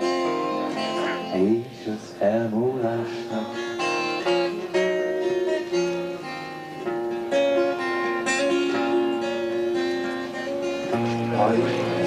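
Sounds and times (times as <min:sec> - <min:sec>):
acoustic guitar picking: 0:00.0 - 0:12.0.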